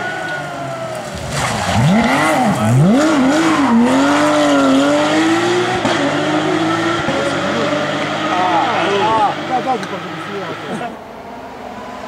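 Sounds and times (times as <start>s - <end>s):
rally car engine revving: 0.0s - 11.1s.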